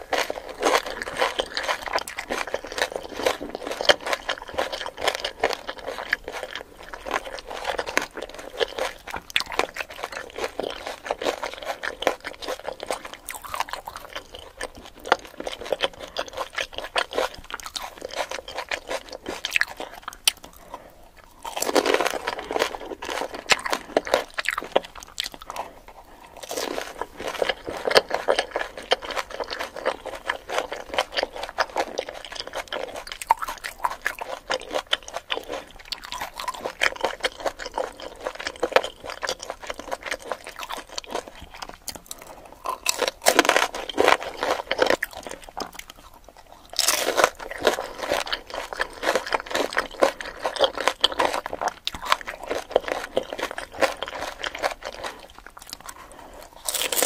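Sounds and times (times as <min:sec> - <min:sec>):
crunching and chewing food: 0:00.0 - 0:57.0.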